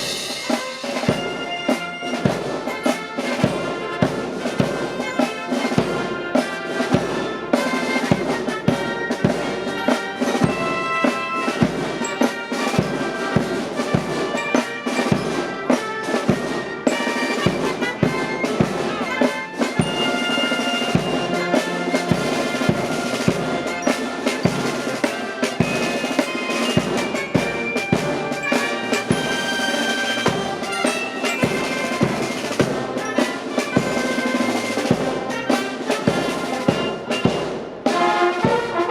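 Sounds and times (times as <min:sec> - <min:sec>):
brass playing a march: 0:00.0 - 0:38.9
marching drum beat: 0:00.0 - 0:38.9.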